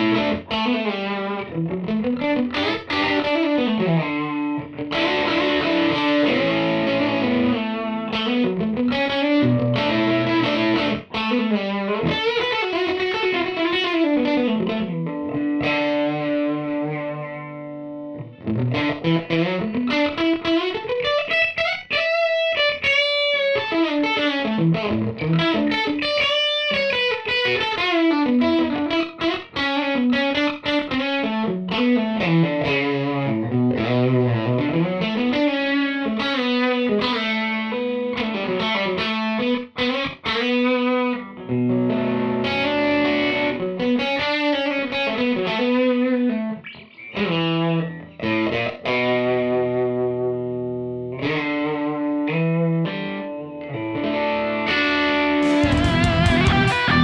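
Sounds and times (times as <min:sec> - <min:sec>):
overdriven electric guitar lead: 0:00.0 - 0:57.0.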